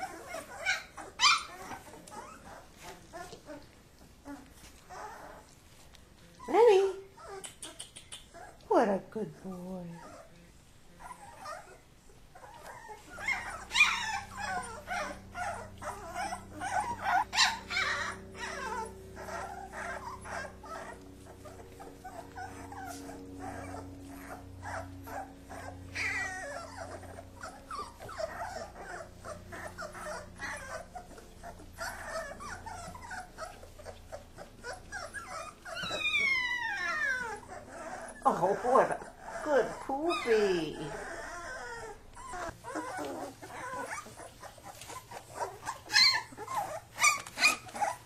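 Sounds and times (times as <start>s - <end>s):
puppy growls and whines: 0.0s - 48.0s.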